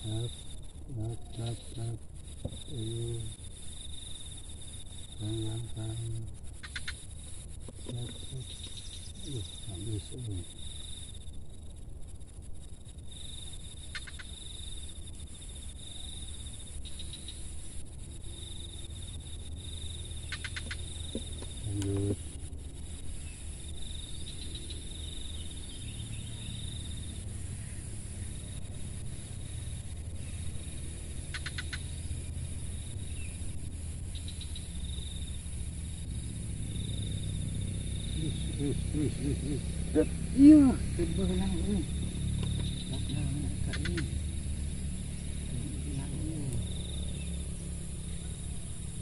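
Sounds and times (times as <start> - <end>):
insects trilling: 0.0 - 49.0
rapid insect clicks: 0.0 - 49.0.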